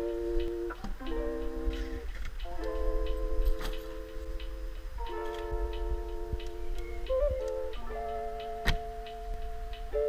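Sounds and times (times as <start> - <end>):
sustained music chords: 0.0 - 10.0.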